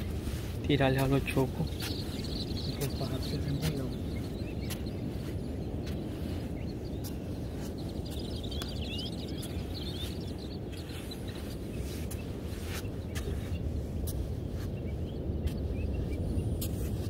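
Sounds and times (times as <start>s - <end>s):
footsteps on sand: 0.0s - 17.0s
low outdoor rumble: 0.0s - 17.0s
small birds chirping: 0.0s - 17.0s.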